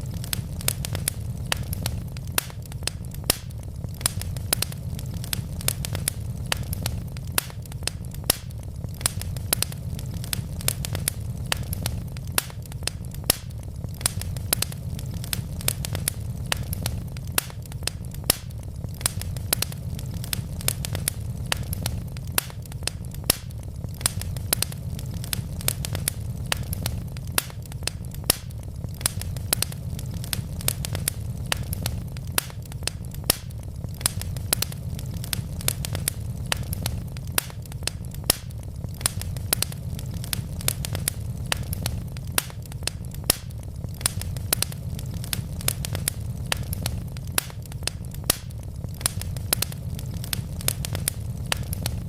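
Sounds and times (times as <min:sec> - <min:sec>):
logs crackling and popping: 0:00.0 - 0:52.0
low rumble of flames: 0:00.0 - 0:52.0.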